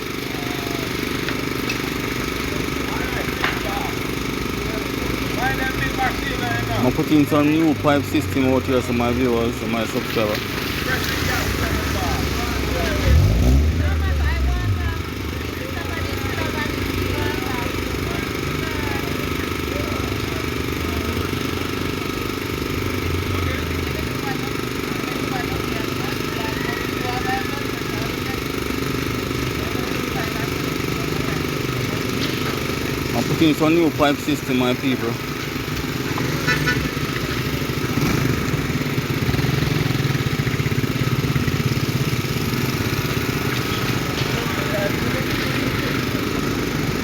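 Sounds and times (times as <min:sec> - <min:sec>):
heavy machinery engine rumbling: 0:00.0 - 0:47.0.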